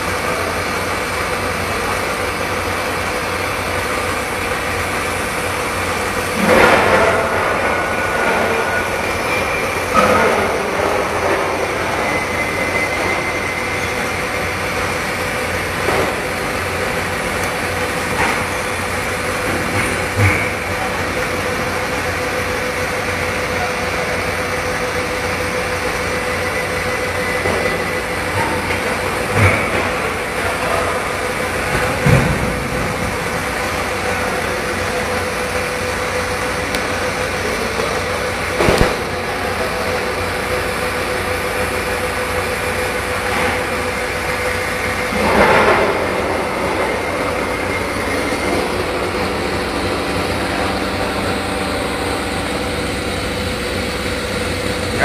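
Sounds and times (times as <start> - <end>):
machinery hum and hiss: 0.0 - 55.0.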